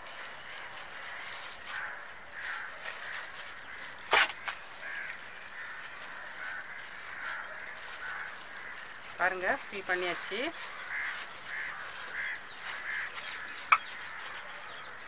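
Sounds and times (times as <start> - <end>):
crows cawing: 0.4 - 14.9.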